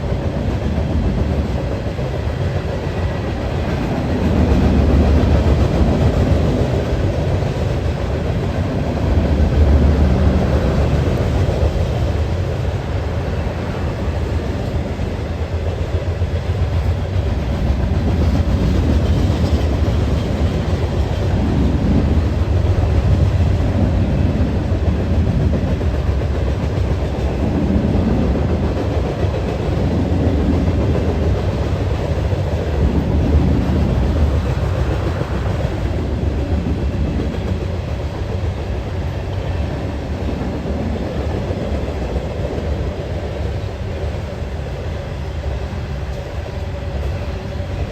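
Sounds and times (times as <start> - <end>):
train wheels rumbling: 0.0 - 47.9.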